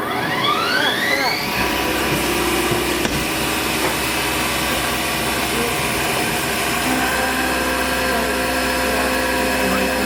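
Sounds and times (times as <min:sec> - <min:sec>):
machine whirring with tones: 0:00.0 - 0:10.0.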